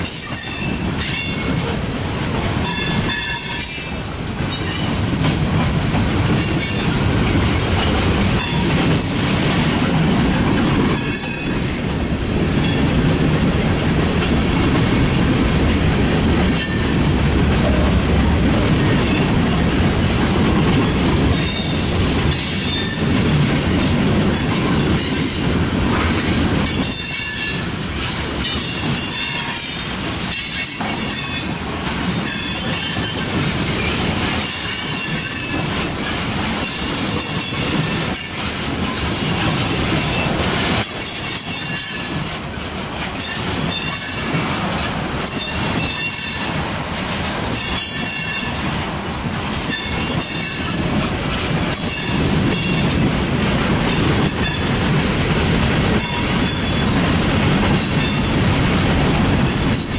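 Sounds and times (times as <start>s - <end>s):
wheels clicking over rail joints: 0.0s - 59.9s.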